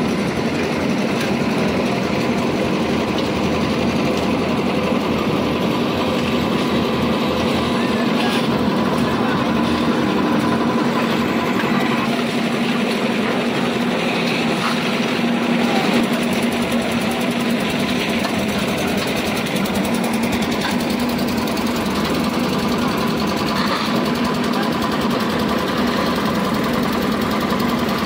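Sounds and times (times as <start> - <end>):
concrete mixer engine running: 0.0 - 28.0.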